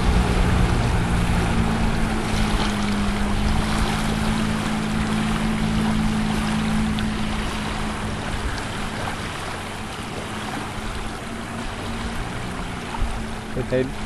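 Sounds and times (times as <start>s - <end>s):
motorboat engine humming: 0.0s - 14.0s
water rushing: 0.0s - 14.0s.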